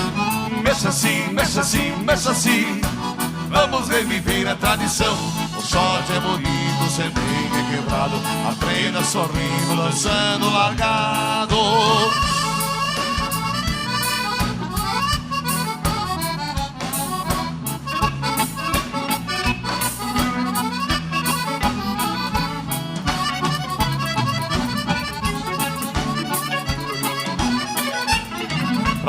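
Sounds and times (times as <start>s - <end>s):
accordion melody: 0.0s - 29.0s
bass line: 0.0s - 29.0s
steady drum beat: 0.0s - 29.0s.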